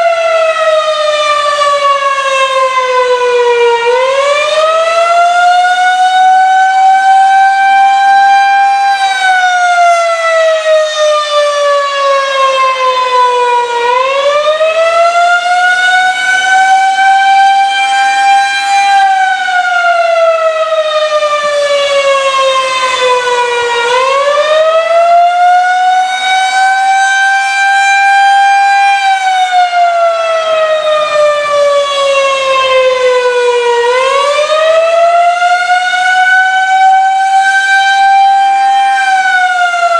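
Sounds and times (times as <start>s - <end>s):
rotating warning siren rising and falling: 0.0s - 39.9s.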